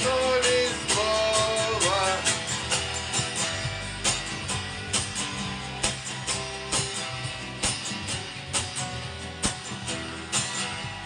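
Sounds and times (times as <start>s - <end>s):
guitar playing: 0.0s - 11.0s.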